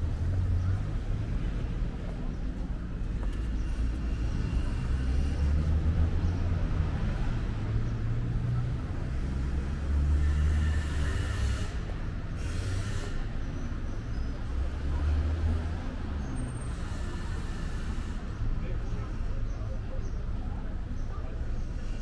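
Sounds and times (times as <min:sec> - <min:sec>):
car engines passing: 0:00.0 - 0:22.0.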